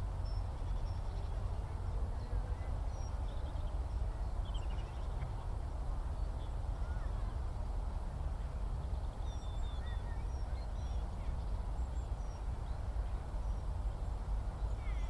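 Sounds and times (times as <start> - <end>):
distant skylark song: 0.0 - 7.6, 8.3 - 15.0.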